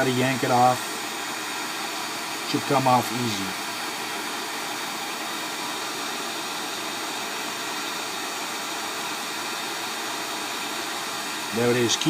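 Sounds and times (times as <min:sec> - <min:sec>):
heat gun hissing: 0:00.0 - 0:12.0.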